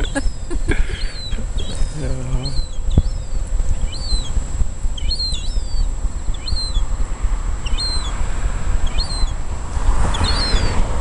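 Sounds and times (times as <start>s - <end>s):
bird chirping calls: 0.0s - 11.0s
steady low rumble: 0.0s - 11.0s.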